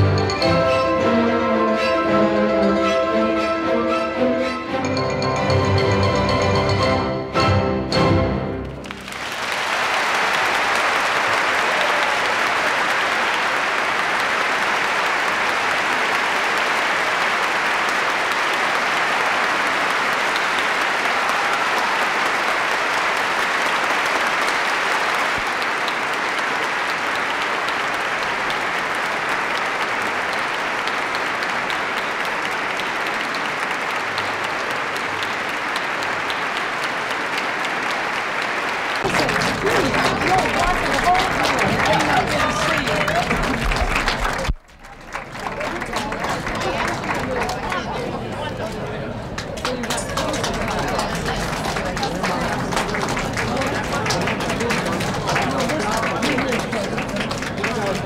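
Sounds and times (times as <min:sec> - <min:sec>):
audience applauding: 0:08.5 - 0:58.0.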